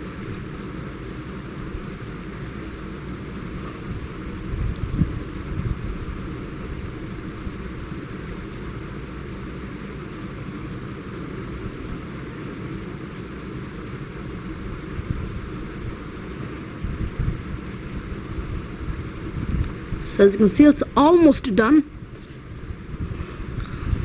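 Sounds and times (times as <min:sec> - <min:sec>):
steady rumbling background noise: 0:00.0 - 0:24.0.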